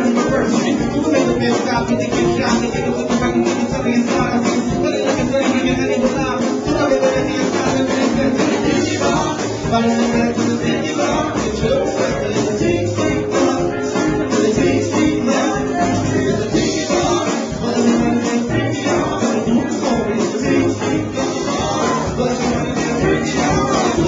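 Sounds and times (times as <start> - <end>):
conga drum: 0.0 - 24.0
electric guitar: 0.0 - 24.0
keyboard: 0.0 - 24.0
people singing into microphones: 0.0 - 24.0
shaken percussion rhythm: 0.0 - 24.0.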